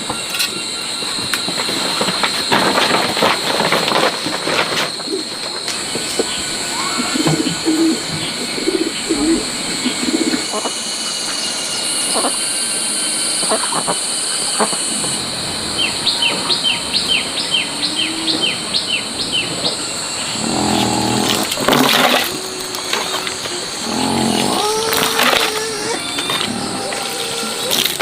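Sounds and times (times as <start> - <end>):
high insect drone: 0.0 - 28.0.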